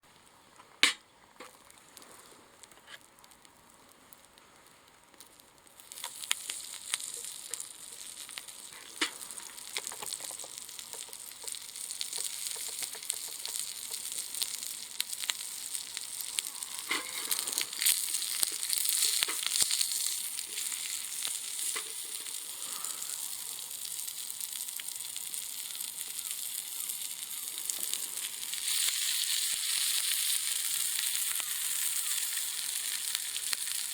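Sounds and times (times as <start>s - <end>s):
wood fire crackling and hissing: 0.1s - 33.9s.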